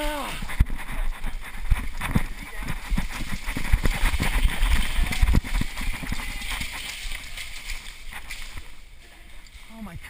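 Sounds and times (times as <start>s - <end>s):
running footsteps on hard floor: 0.0s - 9.3s
gear jostling: 0.0s - 10.0s.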